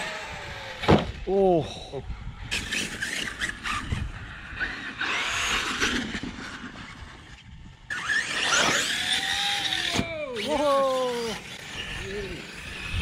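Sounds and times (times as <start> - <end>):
electric motor whining: 0.0 - 1.3, 2.4 - 13.0.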